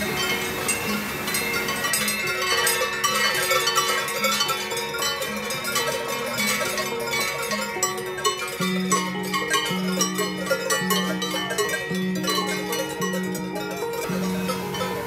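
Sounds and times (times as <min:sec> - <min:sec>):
background music with held notes: 0:00.0 - 0:15.0
cowbells clanking: 0:00.0 - 0:15.0.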